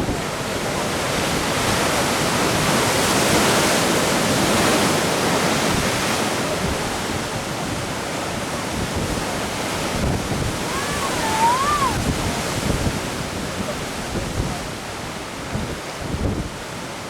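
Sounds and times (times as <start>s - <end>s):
sea surf washing in: 0.0s - 17.0s
wind buffeting the microphone: 0.0s - 17.0s.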